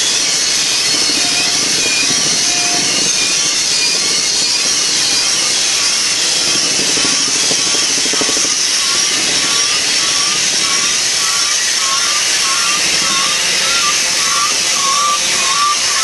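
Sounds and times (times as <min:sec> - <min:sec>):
faint repeating chirp: 0:00.0 - 0:16.0
steel wheels hissing on rails: 0:00.0 - 0:16.0.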